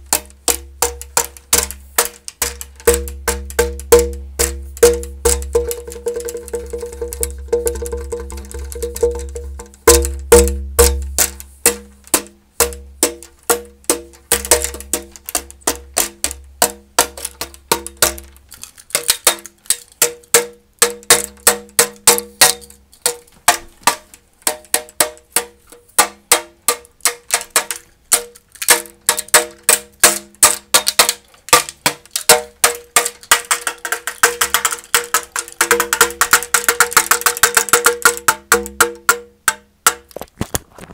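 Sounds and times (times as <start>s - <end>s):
hands pounding hollow tube: 0.0s - 40.3s.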